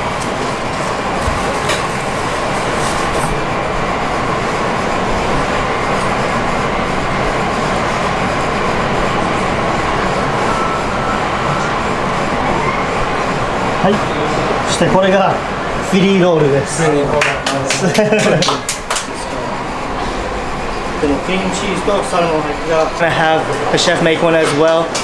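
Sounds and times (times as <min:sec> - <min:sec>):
commercial kitchen background noise: 0:00.0 - 0:25.0.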